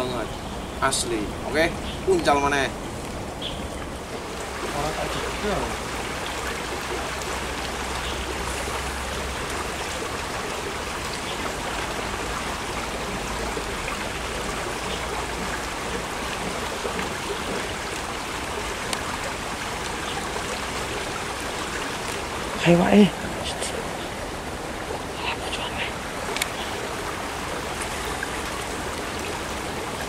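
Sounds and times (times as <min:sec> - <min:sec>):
stream running over stones: 0:00.0 - 0:30.0.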